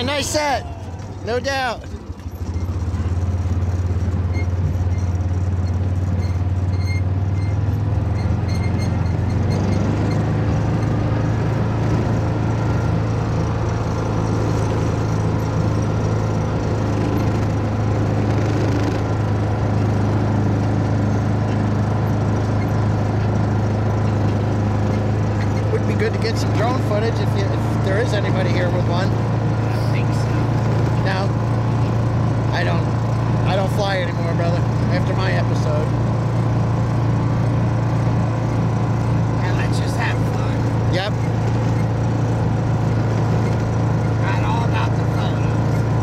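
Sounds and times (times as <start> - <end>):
vehicle engine droning: 0.0 - 46.0.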